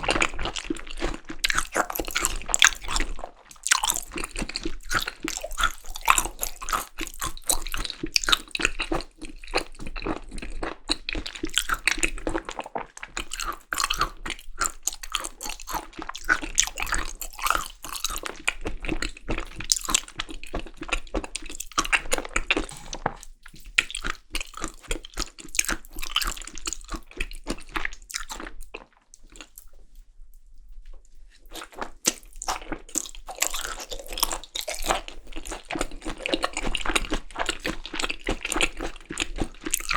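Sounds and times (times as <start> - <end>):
wet sticky chewing: 0.0 - 29.8, 31.5 - 39.9.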